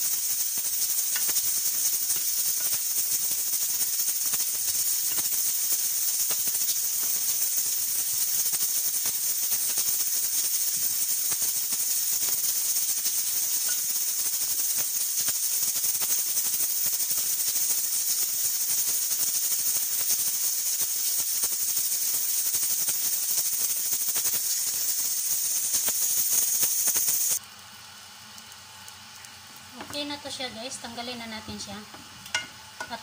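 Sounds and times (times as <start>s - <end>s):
pressure cooker hissing steam: 0.0s - 27.4s.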